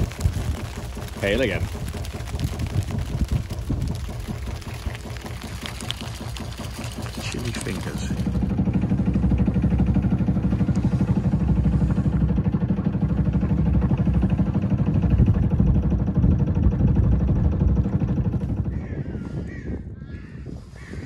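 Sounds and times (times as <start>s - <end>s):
boat engine throbbing: 0.0s - 20.0s.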